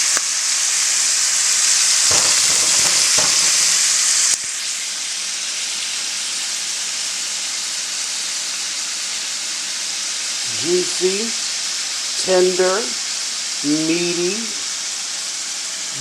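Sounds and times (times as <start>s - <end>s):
burger patties sizzling: 0.0s - 16.0s.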